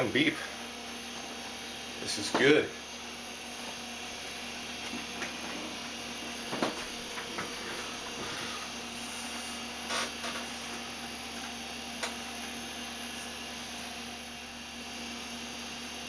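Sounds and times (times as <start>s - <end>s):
computer fan whir and hum: 0.0s - 16.0s.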